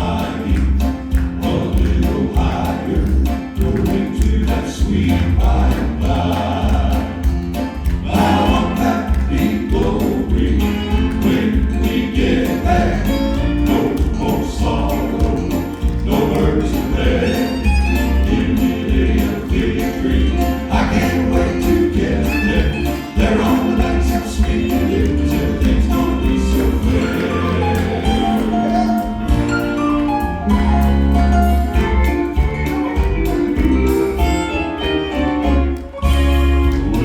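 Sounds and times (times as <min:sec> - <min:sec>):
vocal quartet singing in harmony: 0:00.0 - 0:31.0
instrumental accompaniment with bass: 0:00.0 - 0:37.0.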